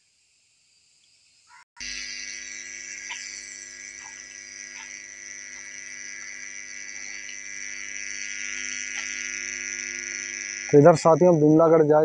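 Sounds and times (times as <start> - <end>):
high insect drone: 0.0 - 12.0
steady tonal hum: 1.8 - 12.0.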